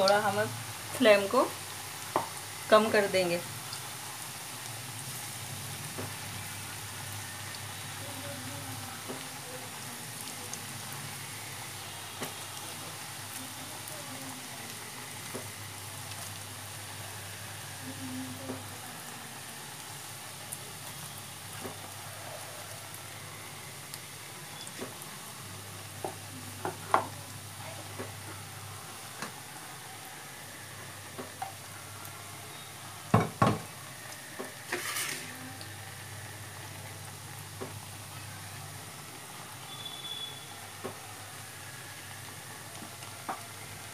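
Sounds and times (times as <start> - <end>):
food sizzling in hot oil: 0.0 - 43.9.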